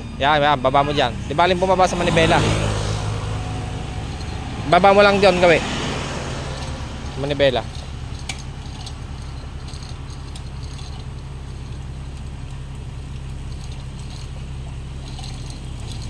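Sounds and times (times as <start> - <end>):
engine droning: 0.0 - 16.0
faint clicks and rattles: 0.2 - 16.0.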